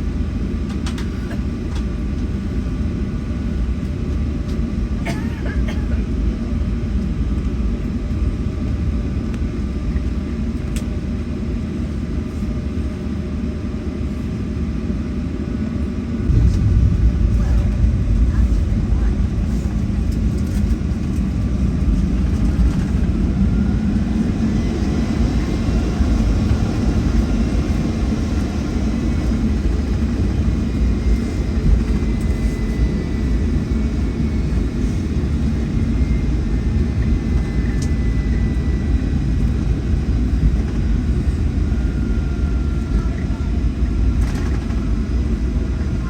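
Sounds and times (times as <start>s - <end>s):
jet engines low rumble: 0.0s - 46.0s.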